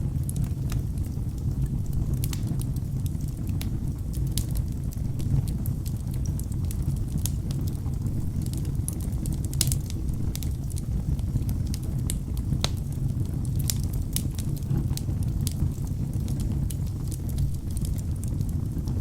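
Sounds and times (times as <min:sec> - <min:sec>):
fire roaring: 0:00.0 - 0:19.0
wood crackling and popping: 0:00.0 - 0:19.0.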